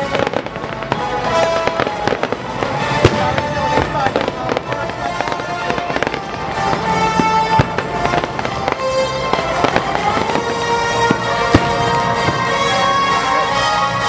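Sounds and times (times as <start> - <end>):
sharp firework bangs: 0.0 - 13.5
fireworks bursting and crackling: 0.0 - 14.0
music playing: 0.0 - 14.0.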